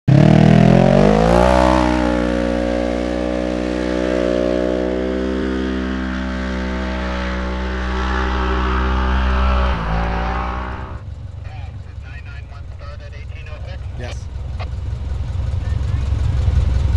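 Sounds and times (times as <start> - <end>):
engine revving: 0.1 - 16.9.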